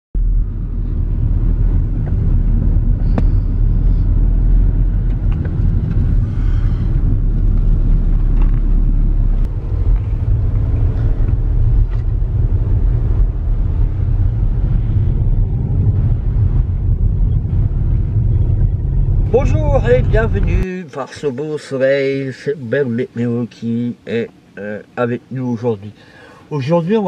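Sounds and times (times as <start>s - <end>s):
car engine and tyre rumble: 0.2s - 27.0s.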